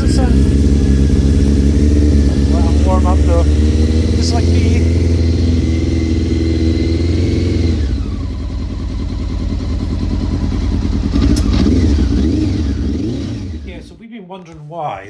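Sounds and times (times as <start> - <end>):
high engine whine: 0.0 - 13.9
motorcycle engine idling: 0.0 - 14.0.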